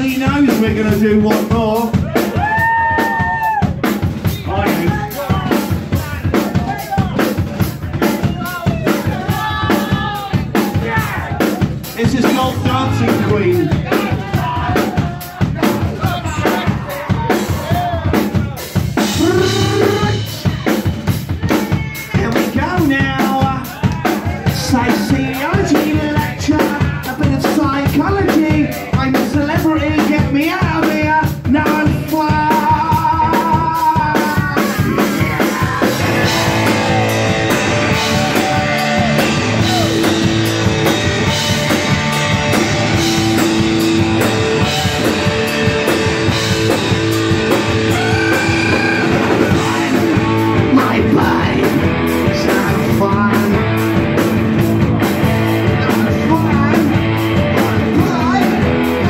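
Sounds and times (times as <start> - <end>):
drum kit beat: 0.0 - 59.0
punk rock band playing loudly: 0.0 - 59.0.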